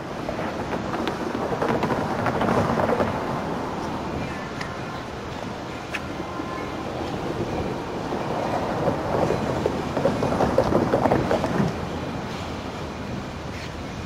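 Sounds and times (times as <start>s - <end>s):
diesel train rumble: 0.0s - 14.0s
wheels clattering over rail joints: 0.0s - 14.0s.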